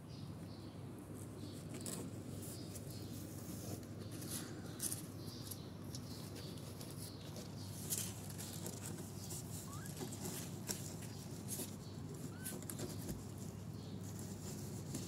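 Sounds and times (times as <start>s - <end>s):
kittens scratching and rustling: 0.3s - 15.0s.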